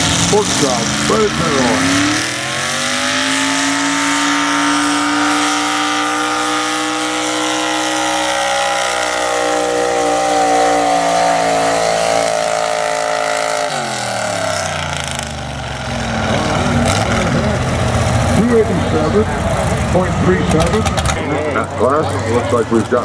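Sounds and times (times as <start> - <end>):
truck engine revving under load: 0.0 - 23.0.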